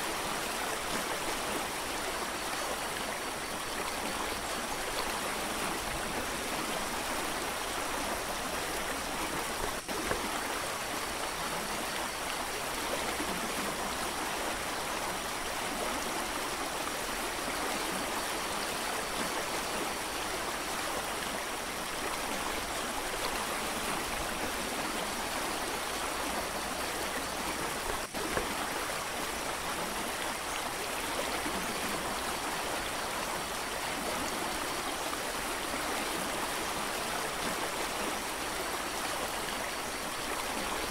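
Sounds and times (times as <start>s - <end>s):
stream rushing over boulders: 0.0s - 40.9s.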